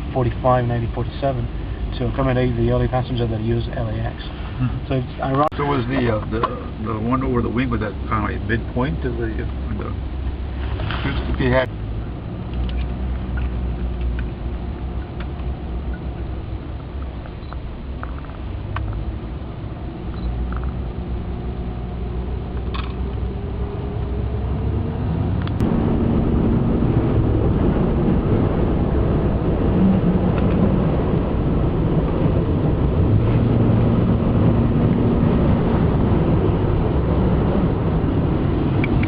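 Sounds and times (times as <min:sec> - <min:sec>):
road noise: 0:00.0 - 0:39.0
truck engine: 0:00.0 - 0:39.0.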